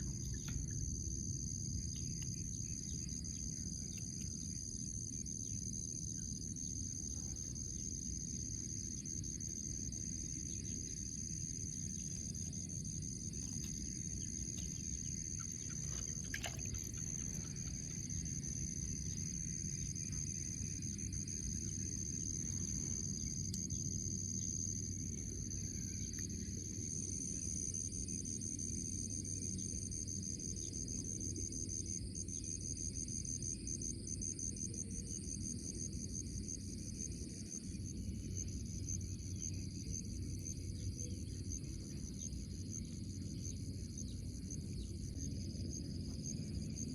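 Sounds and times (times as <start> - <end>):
crickets chirring: 0.0 - 46.9
low rumbling background noise: 0.0 - 46.9.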